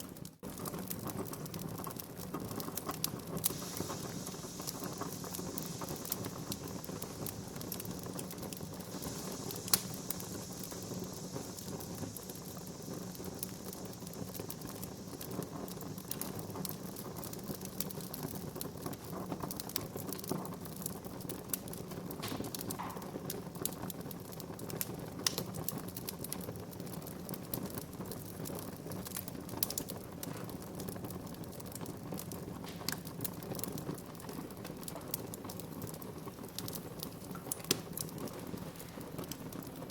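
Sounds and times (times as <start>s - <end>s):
low rush of flames: 0.0s - 39.9s
wood fire crackling and popping: 0.0s - 39.9s.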